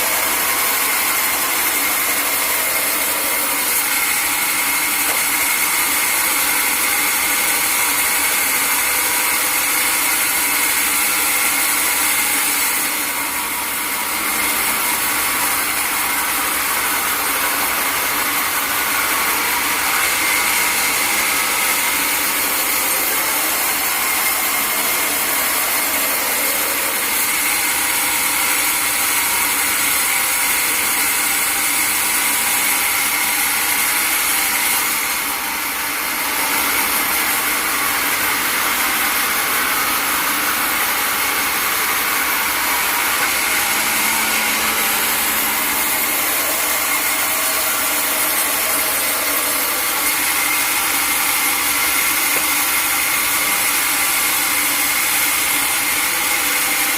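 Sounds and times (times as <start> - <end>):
sawmill saw cutting log: 0.0 - 56.9.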